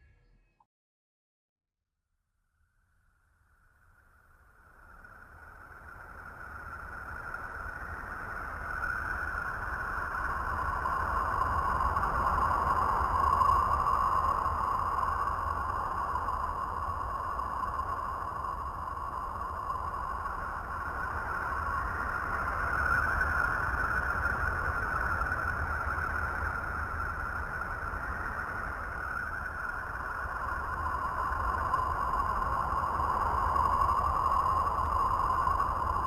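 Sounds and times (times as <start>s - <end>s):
whistling drone: 4.2s - 36.0s.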